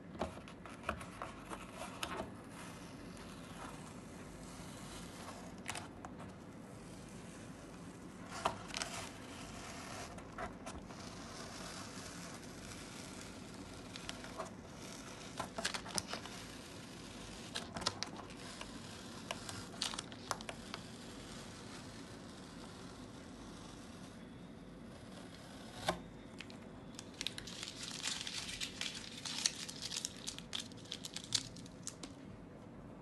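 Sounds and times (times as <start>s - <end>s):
tape peeling and crumpling: 0.4s - 24.4s, 25.0s - 32.2s.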